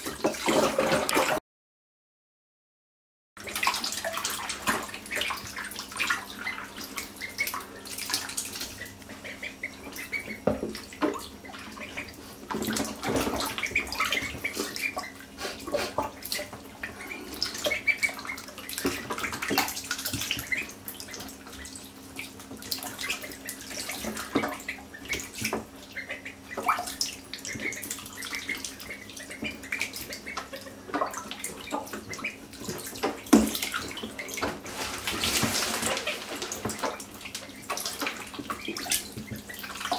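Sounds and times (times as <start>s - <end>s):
ducklings splashing in water: 0.0s - 1.4s, 3.4s - 39.9s
water lapping against tub: 0.0s - 1.4s, 3.4s - 39.9s.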